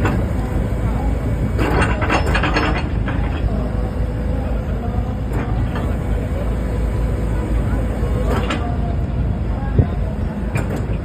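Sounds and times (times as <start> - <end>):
hydraulic excavator running: 0.0 - 11.0.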